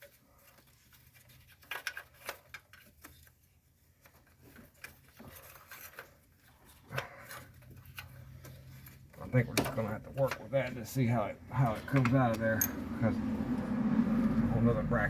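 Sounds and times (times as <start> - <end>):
hand tools clicking and scraping: 0.0 - 3.4, 4.0 - 13.7.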